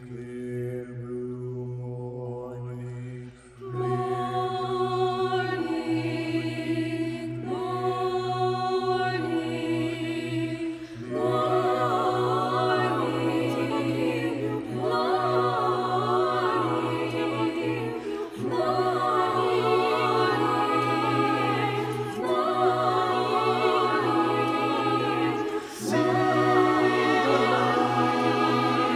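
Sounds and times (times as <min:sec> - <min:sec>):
mixed choir singing: 0:00.2 - 0:28.9.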